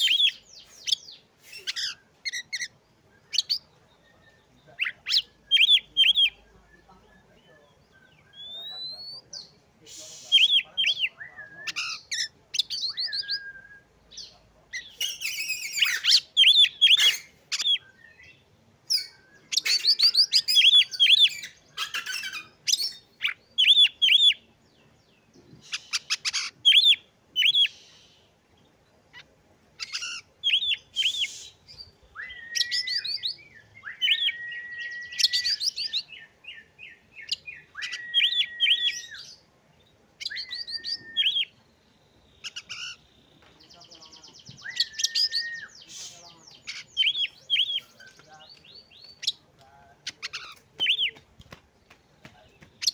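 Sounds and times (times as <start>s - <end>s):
bird singing: 0.0s - 52.9s.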